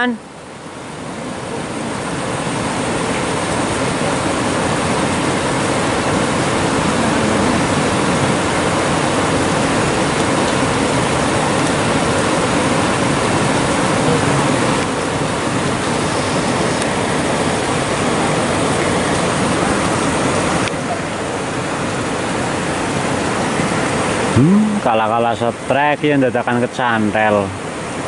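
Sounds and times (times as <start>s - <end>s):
river water rushing over stones: 0.0s - 28.0s.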